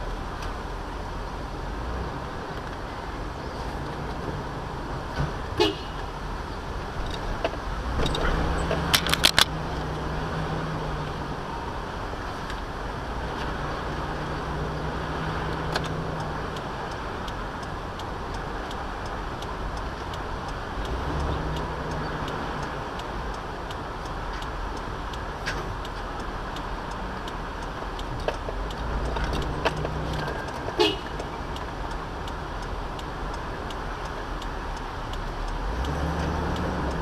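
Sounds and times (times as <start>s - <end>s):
car engine and road noise: 0.0s - 37.0s
light regular ticking: 6.0s - 37.0s.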